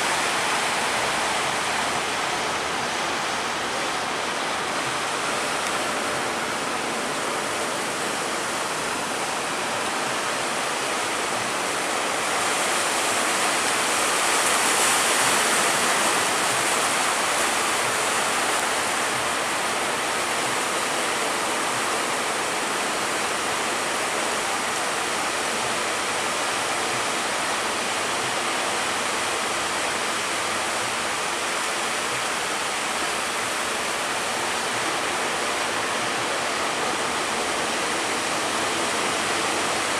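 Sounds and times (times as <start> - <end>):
rough sea water rushing: 0.0 - 39.9.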